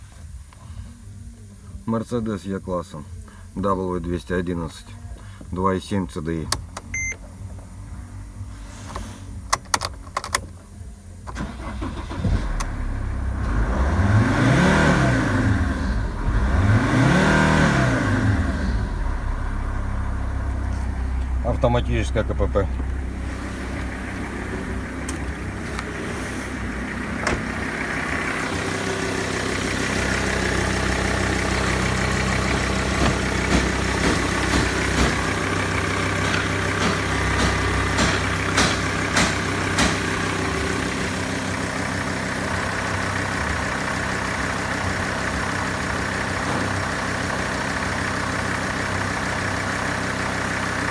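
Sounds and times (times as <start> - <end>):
diesel engine idling: 0.0 - 9.7, 10.6 - 50.9.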